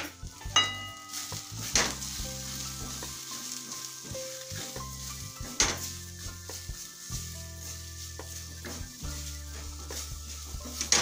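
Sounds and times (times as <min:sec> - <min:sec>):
spices sizzling in hot oil: 0:00.0 - 0:11.0
spatula scraping a pan: 0:01.0 - 0:11.0.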